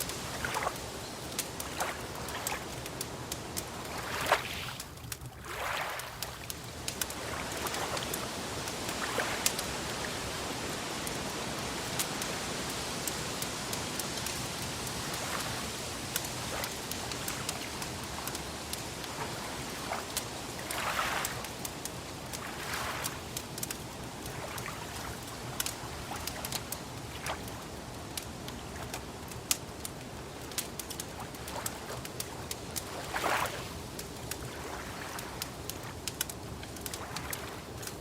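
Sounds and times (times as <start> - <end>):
water lapping: 0.0 - 27.7, 30.4 - 38.0
wood fire crackling: 0.0 - 38.0.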